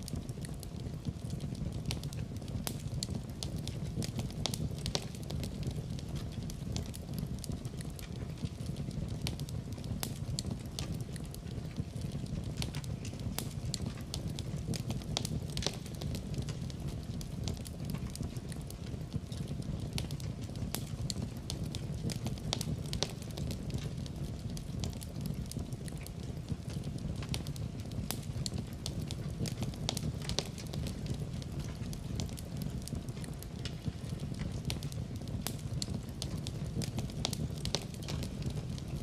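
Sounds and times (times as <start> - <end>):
low rumble of burning fire: 0.0 - 39.0
wood fire crackling and popping: 0.0 - 39.0.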